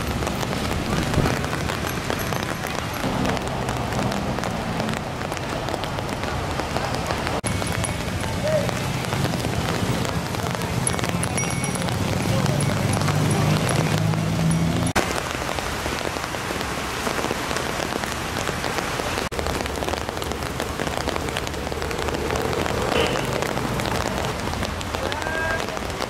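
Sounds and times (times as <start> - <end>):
rain on pavement: 0.0 - 26.0.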